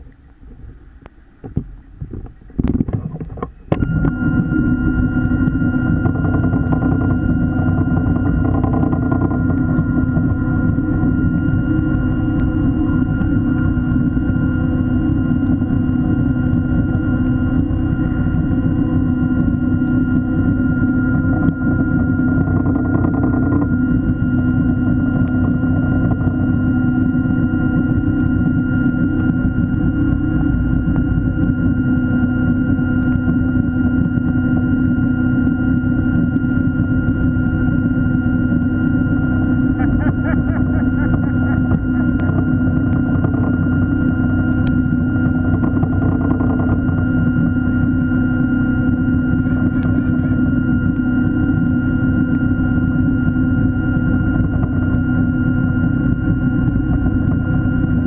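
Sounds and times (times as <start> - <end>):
underwater electric motor humming: 0.0 - 58.0.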